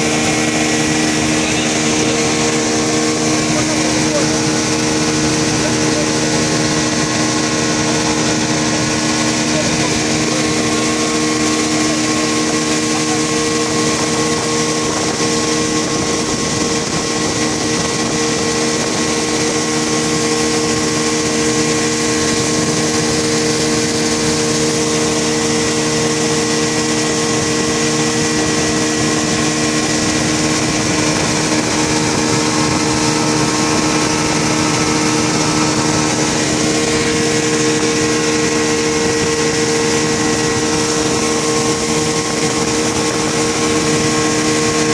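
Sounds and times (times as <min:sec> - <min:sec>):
motorboat engine hum: 0:00.0 - 0:44.9
water spraying off hull: 0:00.0 - 0:44.9.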